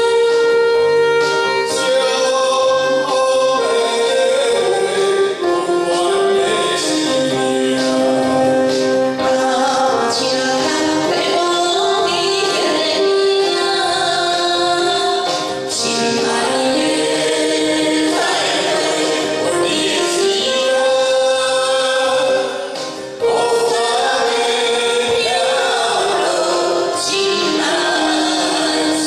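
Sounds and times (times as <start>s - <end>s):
karaoke backing track: 0.0s - 29.0s
man and woman singing duet: 1.5s - 29.0s.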